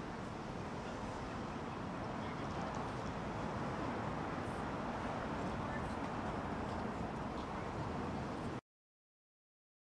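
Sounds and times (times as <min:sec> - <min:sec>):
city street ambience: 0:00.0 - 0:08.6.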